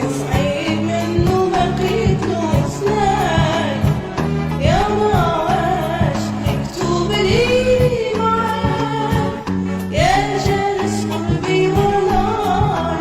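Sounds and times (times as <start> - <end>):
instrumental accompaniment with beat: 0.0 - 13.0
woman singing: 0.0 - 13.0.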